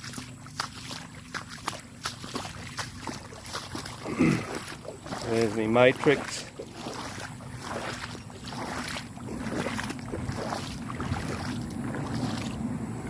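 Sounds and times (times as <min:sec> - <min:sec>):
boots splashing through water: 0:00.0 - 0:13.0.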